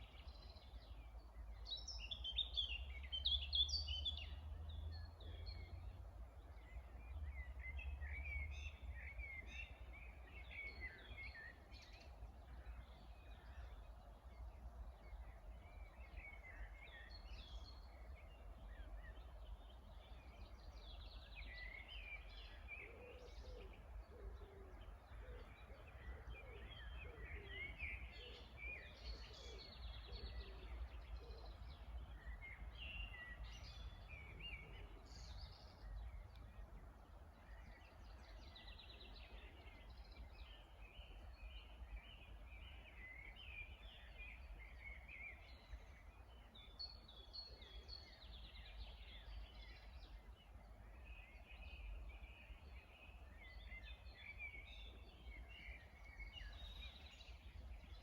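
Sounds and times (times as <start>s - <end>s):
wild birds singing: 0.0s - 58.0s.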